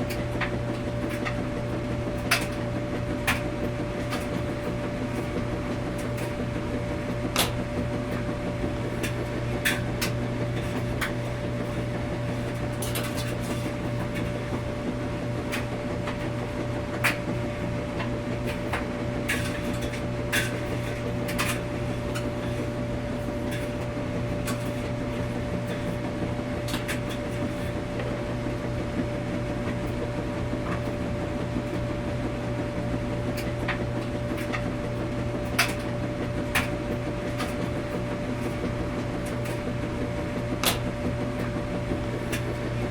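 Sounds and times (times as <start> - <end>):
washing machine running: 0.0 - 42.9.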